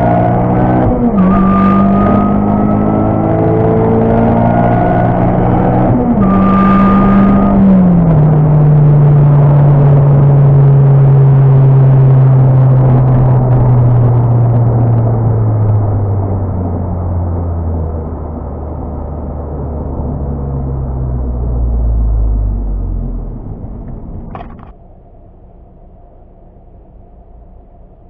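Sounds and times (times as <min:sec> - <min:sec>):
car engine from inside cabin: 0:00.0 - 0:28.0.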